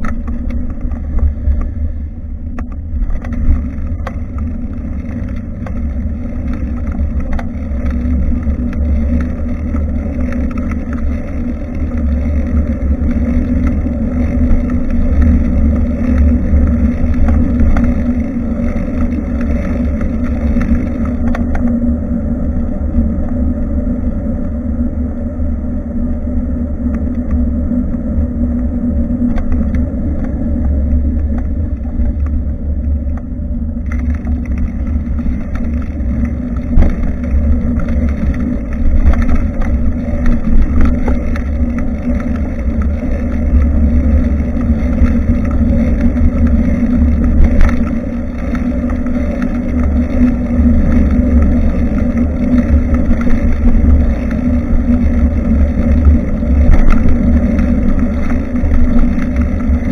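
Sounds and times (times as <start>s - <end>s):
road and tyre noise: 0.0s - 59.9s
wind buffeting microphone: 0.0s - 59.9s.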